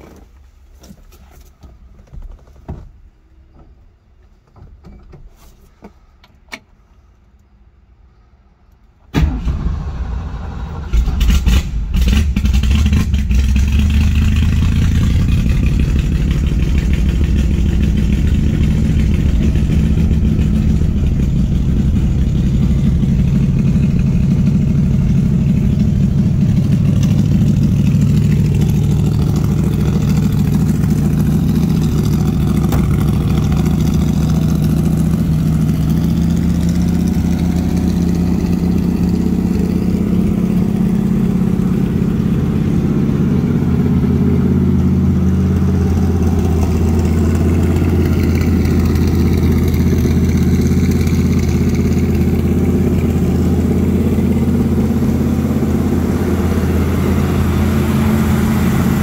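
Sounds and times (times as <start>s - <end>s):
car engine starting and idling: 0.0s - 59.0s.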